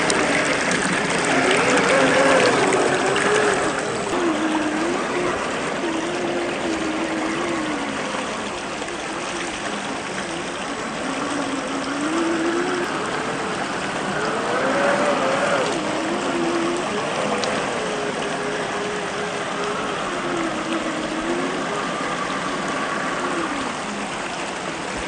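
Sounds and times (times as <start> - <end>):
electric motor whining: 0.0 - 24.2
flowing water rushing: 0.0 - 25.0.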